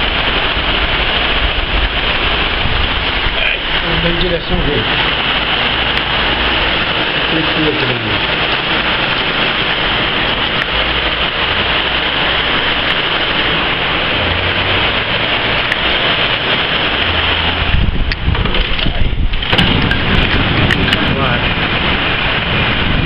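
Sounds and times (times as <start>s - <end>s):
heavy rain: 0.0s - 23.0s
low rumble: 0.0s - 23.0s
strong gusting wind: 0.0s - 23.0s.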